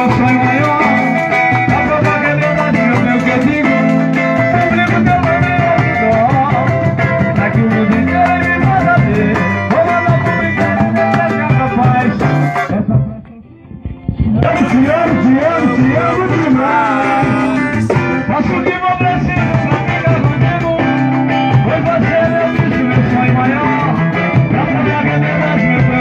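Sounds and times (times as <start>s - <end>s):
person singing: 0.0s - 26.0s
strummed acoustic guitars: 0.0s - 26.0s.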